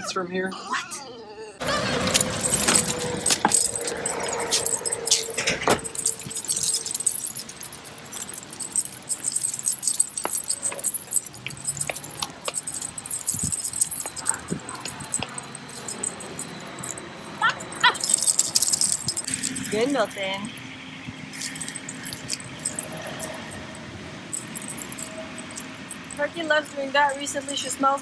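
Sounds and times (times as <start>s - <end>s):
dog tags jingling: 1.6s - 28.0s.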